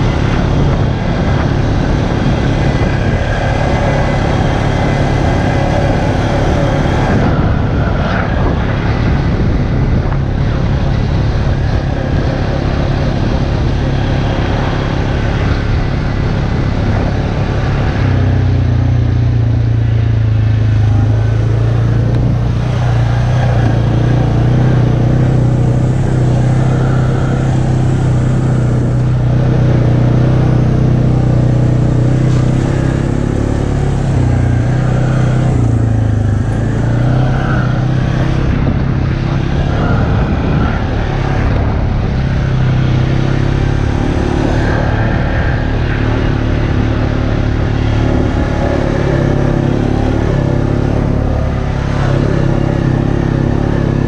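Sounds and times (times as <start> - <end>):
atv engine running: 0.0 - 54.0
tyre and chassis noise on dirt: 0.0 - 54.0.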